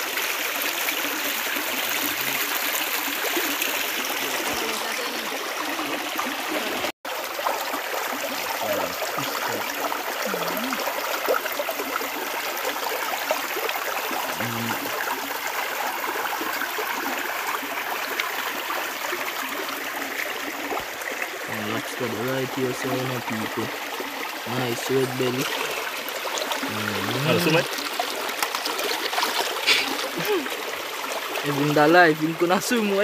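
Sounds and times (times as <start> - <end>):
river water trickling over stones: 0.0 - 33.0.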